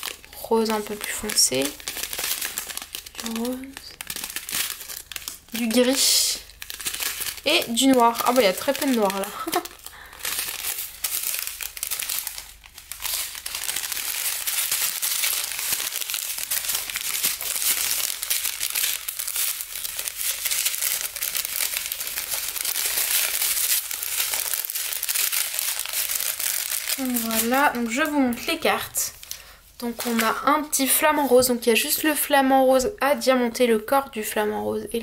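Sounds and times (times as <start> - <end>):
plastic packaging crinkling: 0.0 - 32.1.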